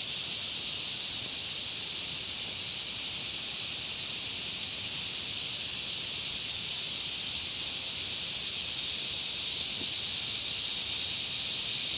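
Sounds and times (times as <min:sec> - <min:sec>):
insects buzzing: 0:00.0 - 0:11.9.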